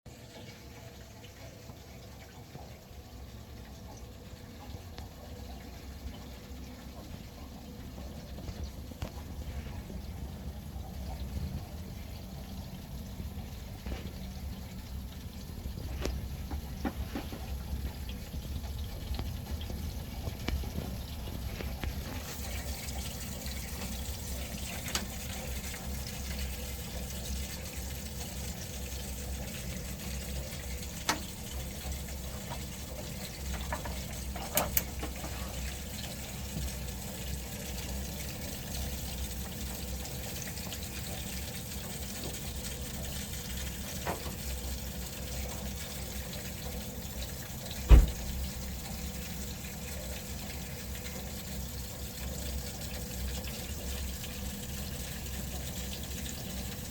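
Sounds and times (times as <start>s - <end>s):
water flowing: 0.1s - 56.9s
boiler rattling rumble: 2.2s - 56.9s.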